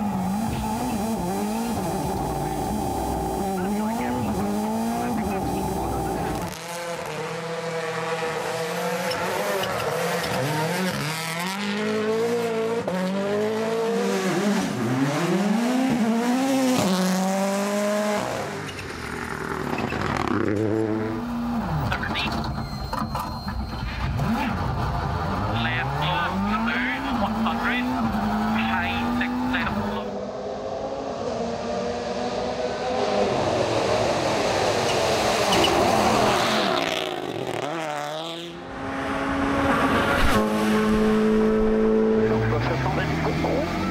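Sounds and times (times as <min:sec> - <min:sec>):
rally car engine revving: 0:00.0 - 0:22.7, 0:23.6 - 0:43.9.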